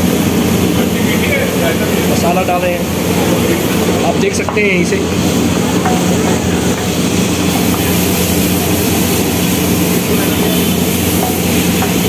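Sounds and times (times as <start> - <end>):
loud steady roar: 0.0 - 12.0.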